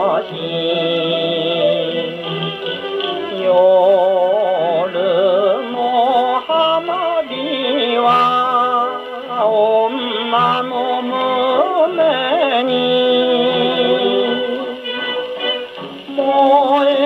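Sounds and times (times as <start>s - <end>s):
band playing on old record: 0.0s - 17.0s
man singing with vibrato: 0.0s - 17.0s.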